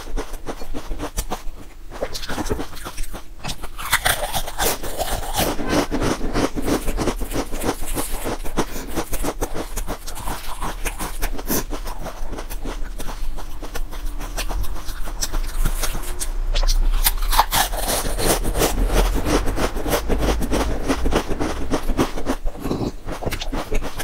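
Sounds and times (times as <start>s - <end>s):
crunching and chewing potato chips: 0.0s - 24.0s.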